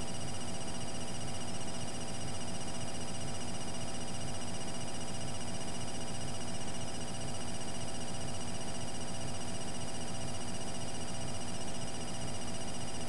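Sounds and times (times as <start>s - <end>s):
buzzing hum and hiss: 0.0s - 13.0s.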